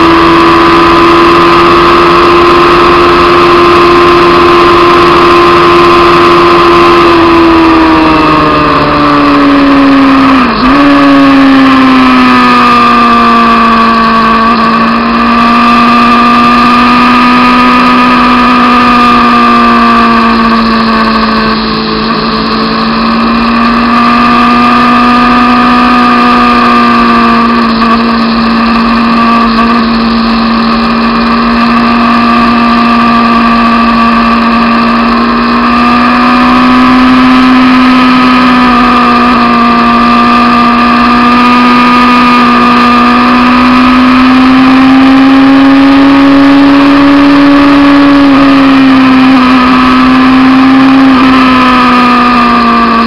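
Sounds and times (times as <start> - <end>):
motorcycle engine at high revs: 0.0 - 53.0.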